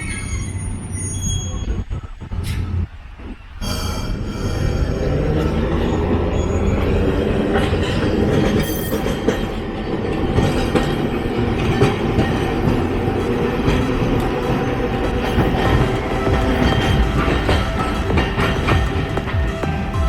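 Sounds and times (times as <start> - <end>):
streetcar rumbling on rails: 0.0 - 20.0.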